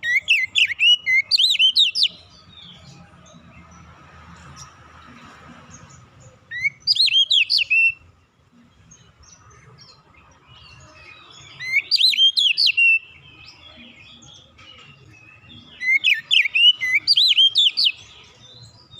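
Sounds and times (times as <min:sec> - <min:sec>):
bird singing whistled notes: 0:00.0 - 0:03.5, 0:06.4 - 0:08.1, 0:08.8 - 0:18.9.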